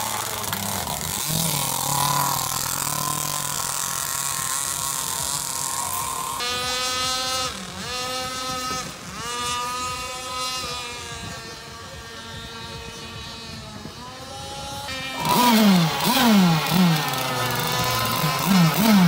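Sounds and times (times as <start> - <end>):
close engine revving in bursts: 0.0 - 19.0
small speedboat engines whining: 0.0 - 19.0.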